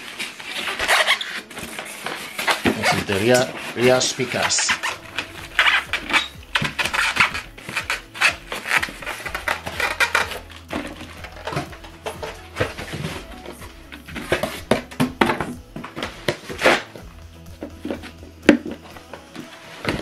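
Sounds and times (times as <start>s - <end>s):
plastic bags rustling: 0.0s - 20.0s
speakers knocking and scraping: 2.4s - 20.0s.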